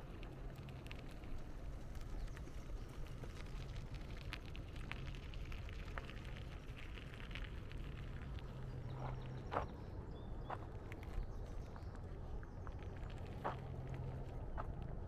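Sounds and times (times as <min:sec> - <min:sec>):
light crackling ticks: 0:00.0 - 0:15.0
wind rumble on microphone: 0:00.0 - 0:15.0.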